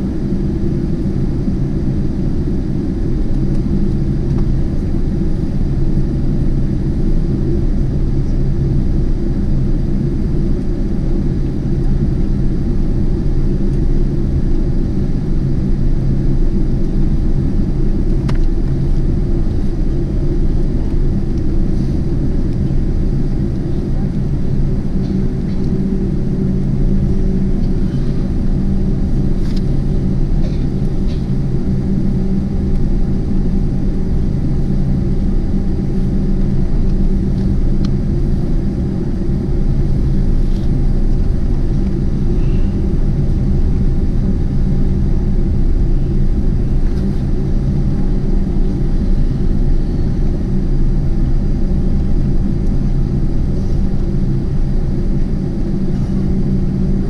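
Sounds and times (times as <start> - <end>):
aircraft cabin rumble and hum: 0.0 - 57.0.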